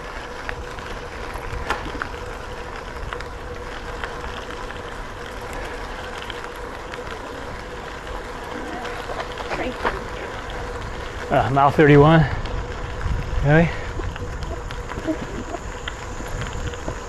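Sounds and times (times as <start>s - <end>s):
bicycle tyres rolling: 0.0s - 17.0s
faint steady hum: 0.0s - 17.0s.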